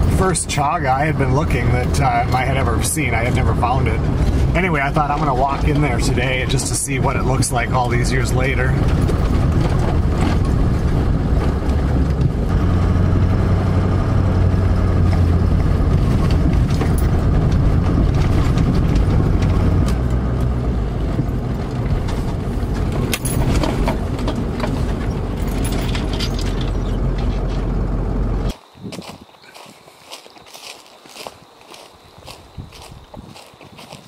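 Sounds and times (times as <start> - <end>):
knocks and rattles: 0.0 - 28.2
vehicle engine running: 0.0 - 28.5.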